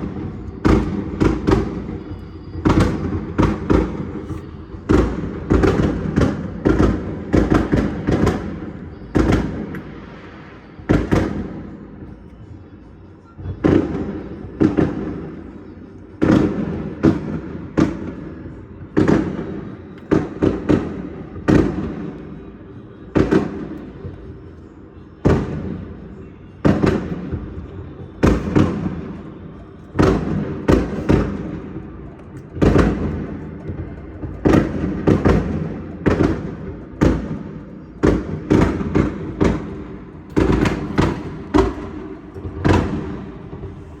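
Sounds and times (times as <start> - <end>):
fireworks bangs echoing: 0.0 - 12.6, 13.4 - 44.0.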